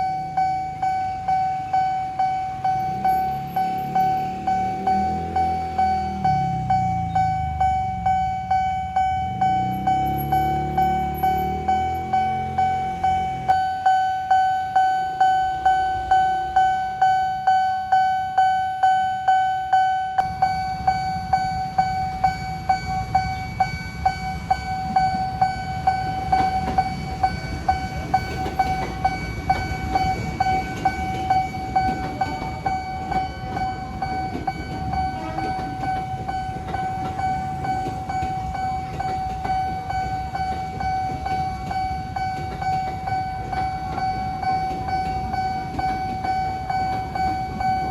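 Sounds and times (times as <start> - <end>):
level crossing bell dinging: 0.0 - 47.9
train rumbling past: 0.0 - 47.9.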